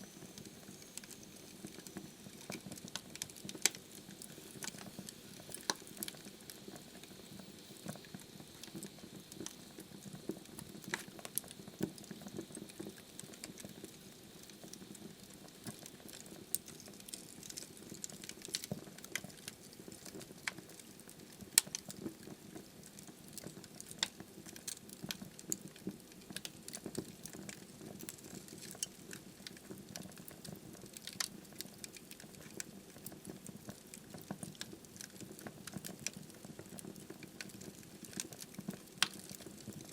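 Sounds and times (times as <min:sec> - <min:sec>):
fire burning in fireplace: 0:00.0 - 0:39.9.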